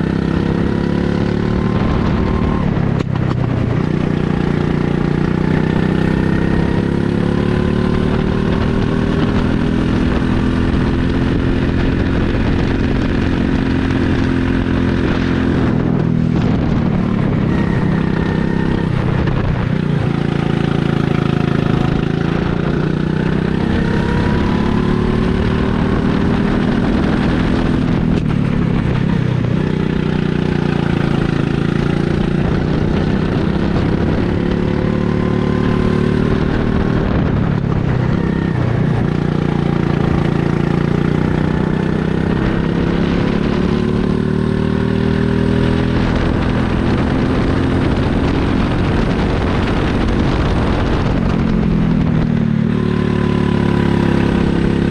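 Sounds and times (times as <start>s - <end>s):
go-kart engine at full throttle: 0.0s - 54.9s.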